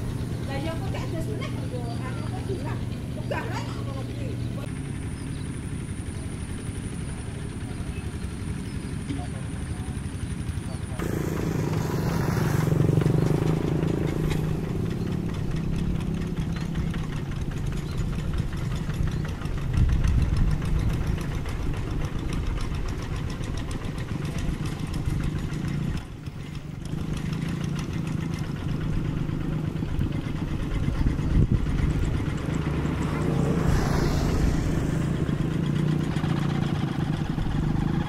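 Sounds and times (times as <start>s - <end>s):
diesel tractor engine running: 0.0s - 38.0s
wheels churning through water: 0.0s - 38.0s.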